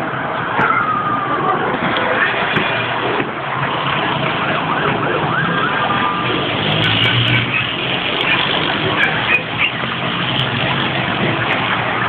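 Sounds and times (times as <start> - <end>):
continuous noise: 0.0 - 12.0
emergency siren wailing: 0.0 - 12.0.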